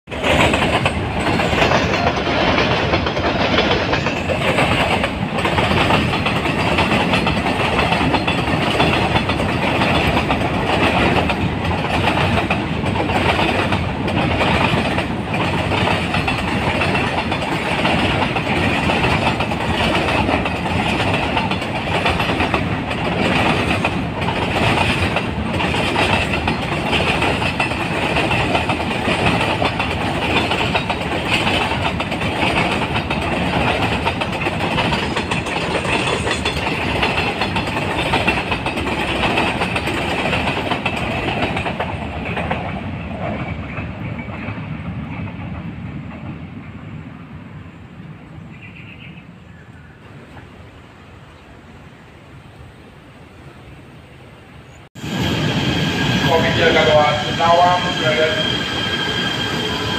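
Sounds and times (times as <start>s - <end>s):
electric train rumbling on rails: 0.0s - 59.9s.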